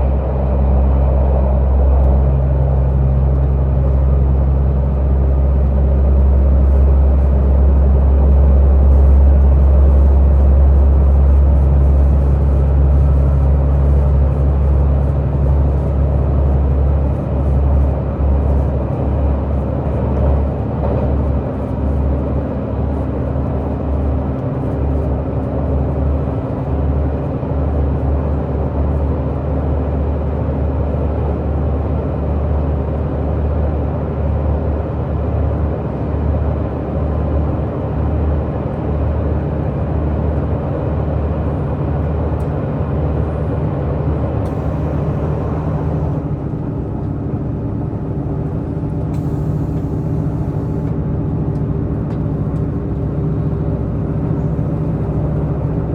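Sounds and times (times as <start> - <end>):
diesel train engine droning: 0.0 - 55.9
wheel-on-rail rumble: 0.0 - 55.9.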